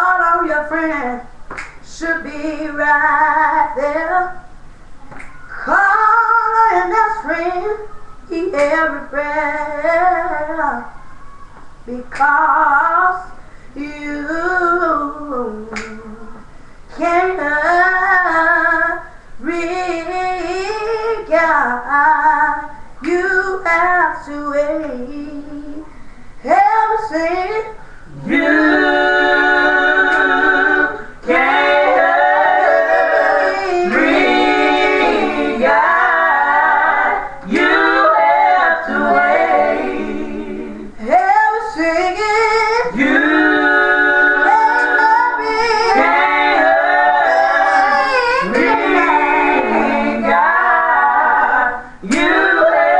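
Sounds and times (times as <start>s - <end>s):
woman singing gospel: 0.0s - 11.1s, 11.8s - 52.9s.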